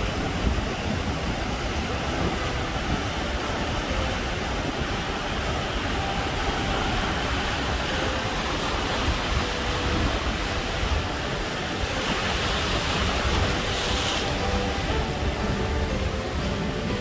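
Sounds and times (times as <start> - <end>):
waves breaking and washing: 0.0 - 17.0
wind rumbling on microphone: 0.0 - 17.0.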